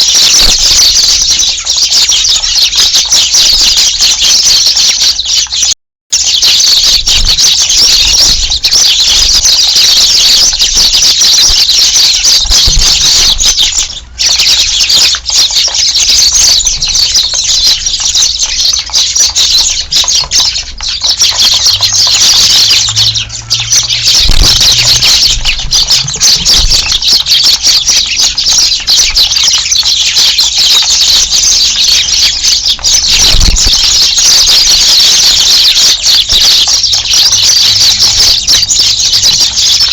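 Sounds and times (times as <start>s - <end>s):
flock of sparrows chirping: 0.0s - 39.9s.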